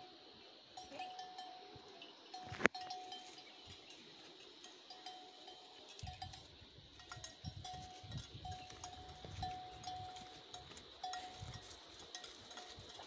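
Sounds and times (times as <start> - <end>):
neck bell clanking: 0.8 - 4.0, 4.6 - 13.0.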